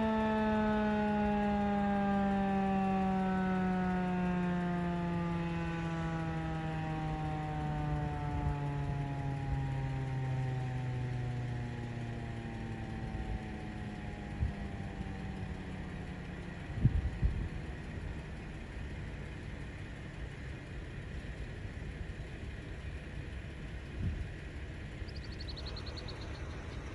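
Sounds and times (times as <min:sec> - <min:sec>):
warning siren winding down: 0:00.0 - 0:21.7, 0:24.0 - 0:26.9.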